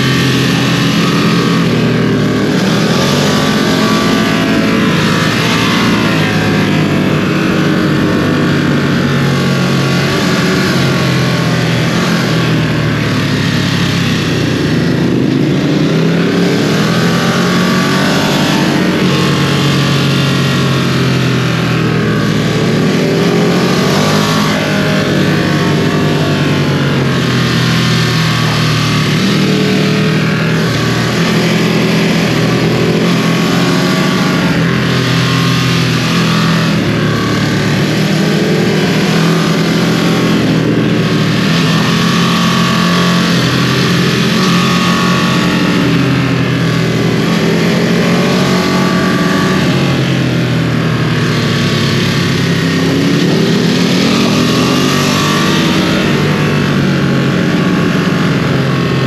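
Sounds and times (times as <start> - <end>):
motorcycle engine running hard: 0.0 - 59.0
wind and road rush: 0.0 - 59.0.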